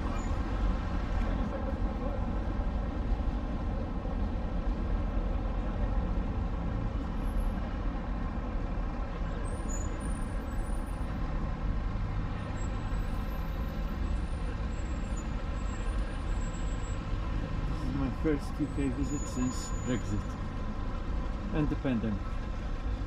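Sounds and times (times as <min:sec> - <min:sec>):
heavy vehicle engines rumbling: 0:00.0 - 0:23.0.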